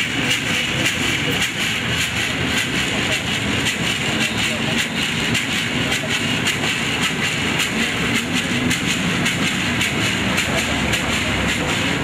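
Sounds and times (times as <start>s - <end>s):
maraca shaken in rhythm: 0.0s - 12.0s.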